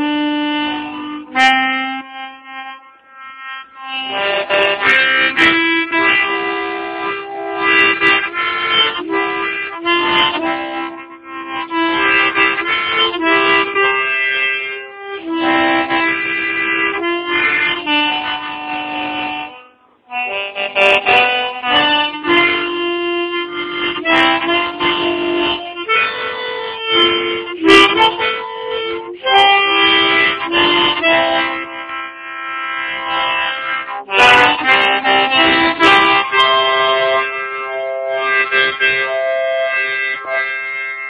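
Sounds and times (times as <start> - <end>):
harmonica folk melody with chords: 0.0 - 41.0.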